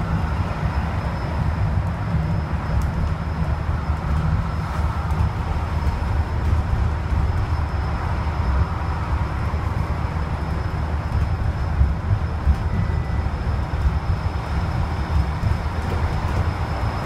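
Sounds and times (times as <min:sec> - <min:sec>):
bus engine and tyre rumble: 0:00.0 - 0:17.0
faint high whine: 0:00.0 - 0:17.0.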